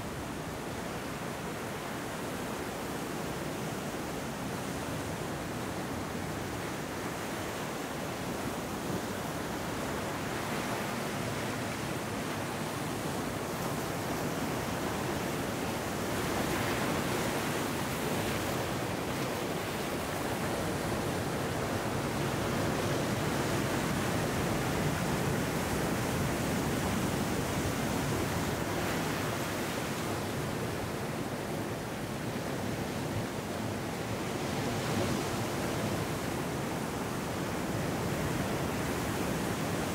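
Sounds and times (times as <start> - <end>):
ocean surf on rocky beach: 0.0 - 39.9.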